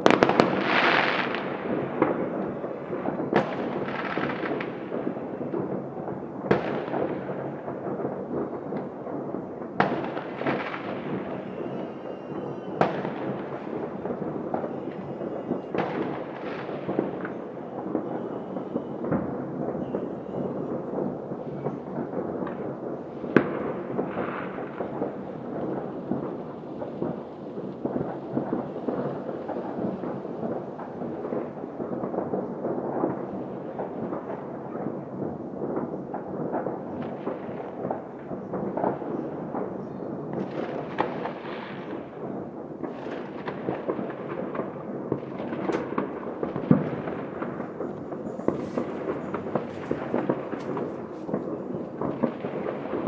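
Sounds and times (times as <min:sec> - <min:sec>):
distant fireworks crackling and popping: 0:00.0 - 0:53.0
loud fireworks bangs: 0:00.0 - 0:53.0.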